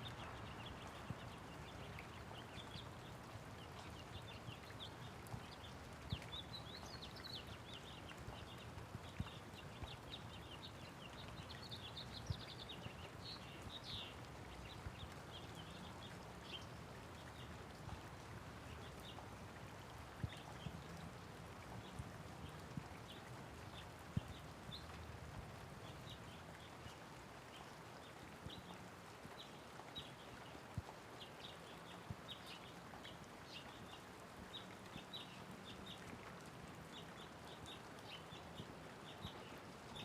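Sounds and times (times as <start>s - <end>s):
light rain falling: 0.0s - 40.0s
sharp taps of raindrops: 0.0s - 40.0s
small birds chirping: 0.0s - 40.0s.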